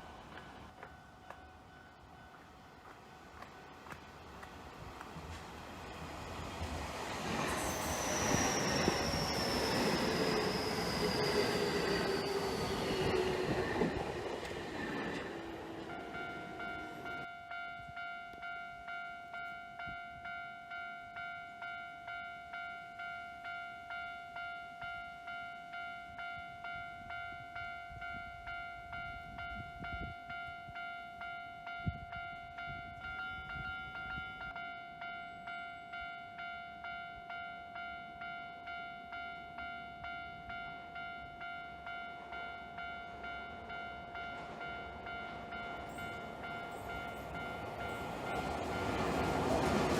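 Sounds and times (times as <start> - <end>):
passing train: 0.0 - 49.9
level crossing warning bell: 0.3 - 4.0, 6.5 - 49.9.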